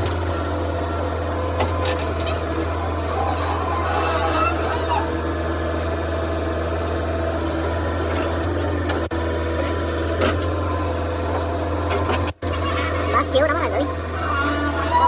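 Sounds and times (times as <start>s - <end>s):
diesel engine running low: 0.0s - 15.0s.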